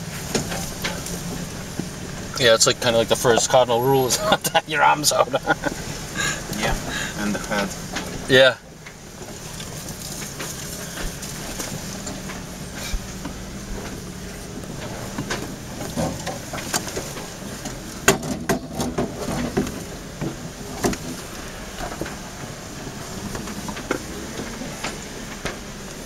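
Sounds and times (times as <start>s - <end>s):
vehicle engine running: 0.0s - 26.0s
vehicle knocks and rattles: 0.0s - 26.0s.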